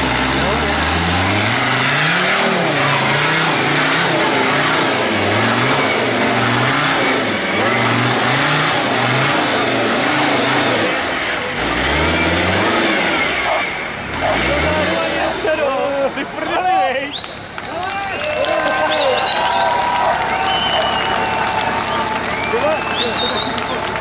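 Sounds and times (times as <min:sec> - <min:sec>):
tractor engine revving: 0:00.0 - 0:17.8, 0:18.4 - 0:24.0.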